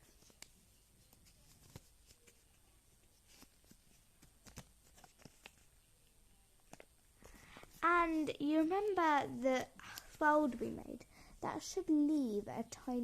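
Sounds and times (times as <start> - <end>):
paper being handled and folded: 0.0 - 10.8.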